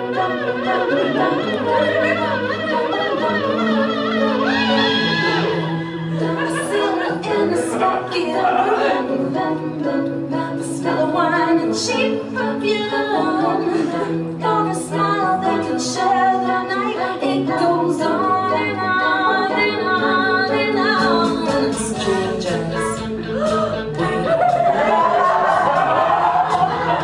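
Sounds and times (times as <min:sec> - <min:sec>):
a cappella singing: 0:00.0 - 0:27.0.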